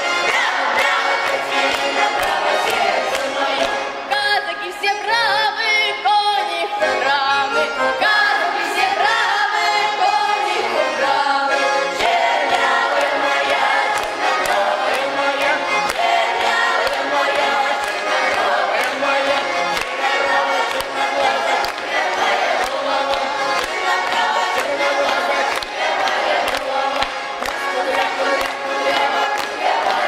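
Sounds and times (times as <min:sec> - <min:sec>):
accordion: 0:00.0 - 0:30.0
children's choir singing: 0:00.0 - 0:30.0.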